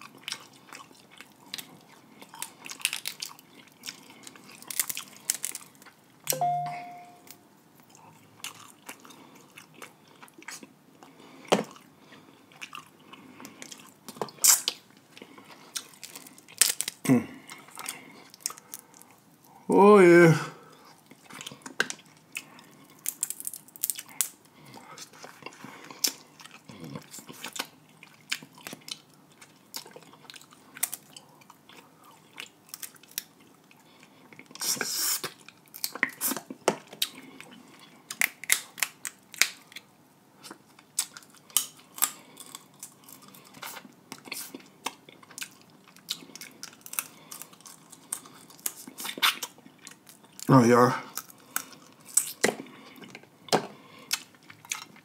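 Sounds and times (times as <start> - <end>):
wet chewing and sucking: 0.0 - 6.0, 7.8 - 19.6, 20.7 - 50.5, 51.1 - 55.0.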